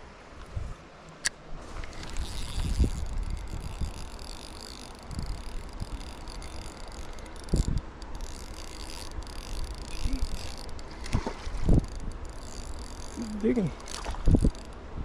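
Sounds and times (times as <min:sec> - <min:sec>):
wind rumbling on microphone: 0:00.0 - 0:00.8, 0:01.5 - 0:15.0.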